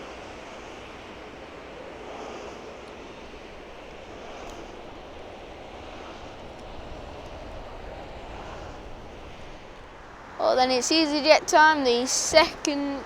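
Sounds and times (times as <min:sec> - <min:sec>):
distant jet engines rumbling: 0:00.0 - 0:13.0.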